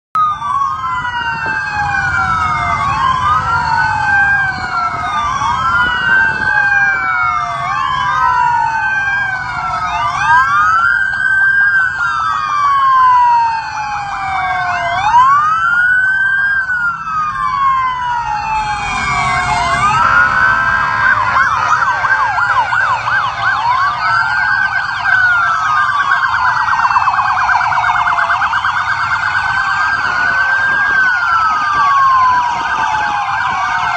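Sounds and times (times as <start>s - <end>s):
motorcycle sirens wailing: 0.2s - 33.9s
yelping siren sweeps: 0.2s - 33.9s.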